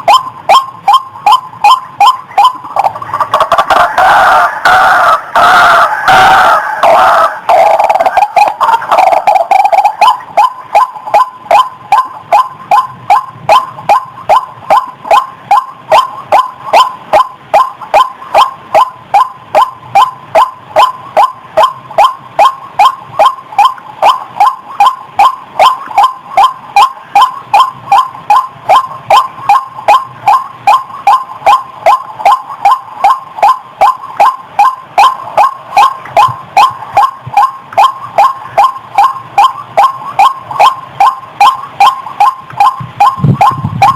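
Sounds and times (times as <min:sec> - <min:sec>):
waterhen harsh calls: 0:00.0 - 0:43.9.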